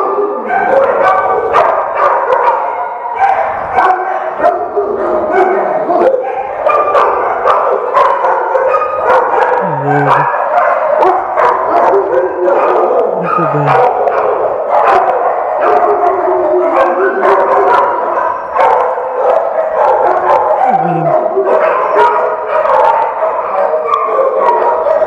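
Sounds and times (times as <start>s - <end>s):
dogs barking and howling: 0.0s - 25.0s.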